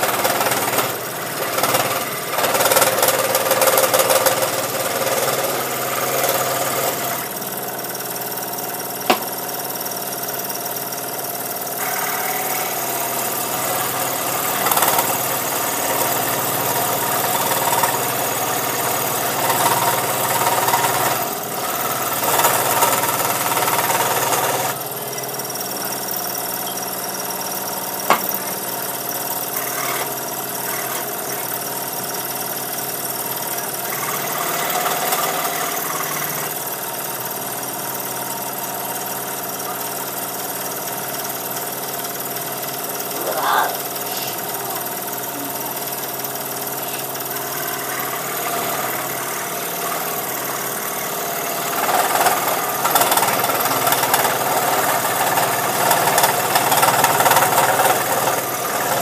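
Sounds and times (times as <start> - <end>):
scroll saw cutting wood: 0.0 - 11.0, 11.6 - 59.0.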